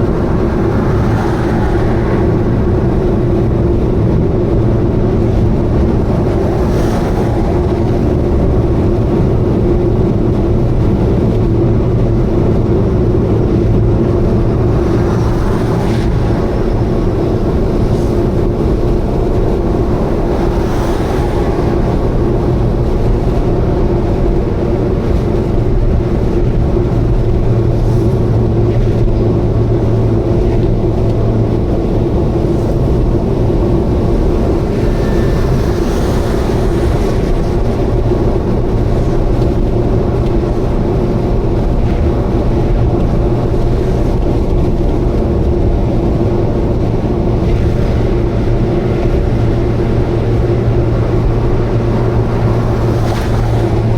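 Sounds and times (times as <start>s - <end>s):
abnormal exhaust noise: 0.0s - 53.9s
car engine drone: 0.0s - 53.9s
road noise: 0.0s - 53.9s.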